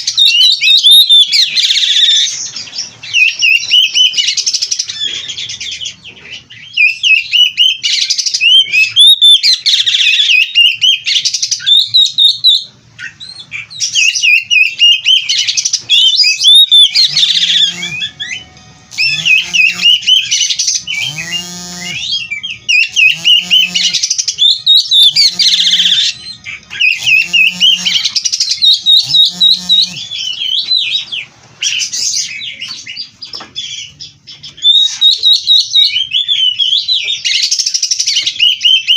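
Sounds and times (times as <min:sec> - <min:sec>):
bird singing whistles and trills: 0:00.0 - 0:38.9
lower pitched bird call: 0:00.0 - 0:38.9.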